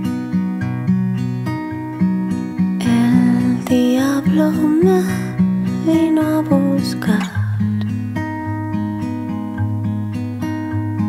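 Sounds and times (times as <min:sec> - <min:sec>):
acoustic guitar picking notes: 0:00.0 - 0:11.0.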